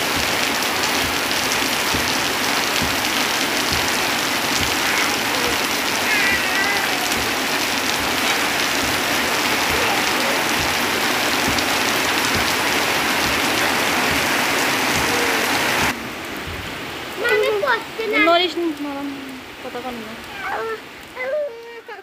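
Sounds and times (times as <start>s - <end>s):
heavy rain on leaves and tin roof: 0.0s - 22.0s
runoff pouring off roof: 0.0s - 22.0s.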